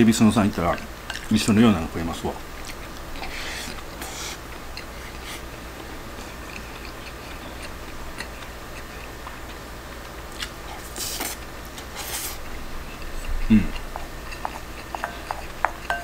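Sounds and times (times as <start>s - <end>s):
man chewing food: 0.2s - 16.0s.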